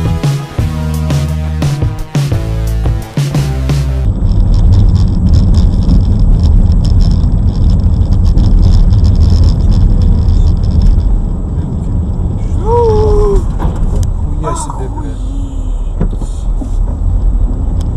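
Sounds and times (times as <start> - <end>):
vehicle engine and road rumble: 0.0 - 17.9.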